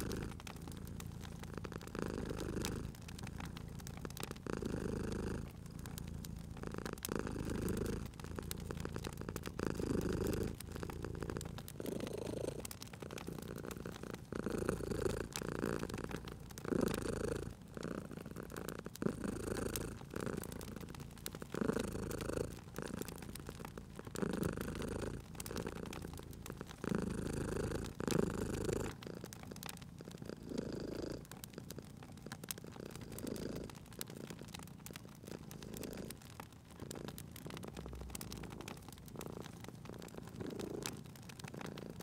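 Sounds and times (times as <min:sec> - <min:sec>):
cat purring: 0:00.0 - 0:42.0
wood fire crackling: 0:00.0 - 0:42.0.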